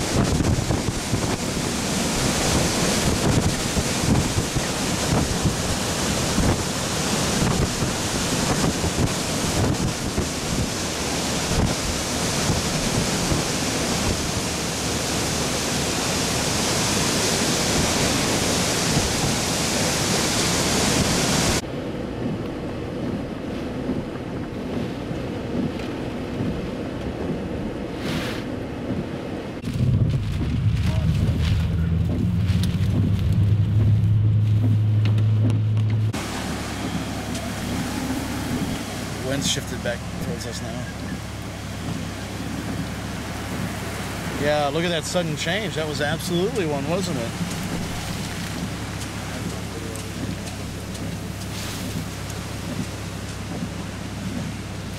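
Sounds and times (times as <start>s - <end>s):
driving rain: 0.0s - 54.9s
strong wind rushing: 0.0s - 54.9s
wind buffeting microphone: 0.0s - 54.9s.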